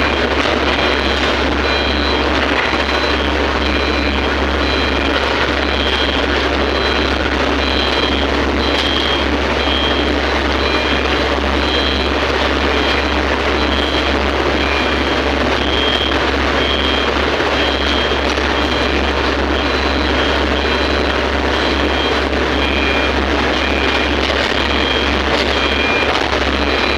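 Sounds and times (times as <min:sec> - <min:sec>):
heavy machinery running: 0:00.0 - 0:26.9
warning beeper pips: 0:00.0 - 0:26.9.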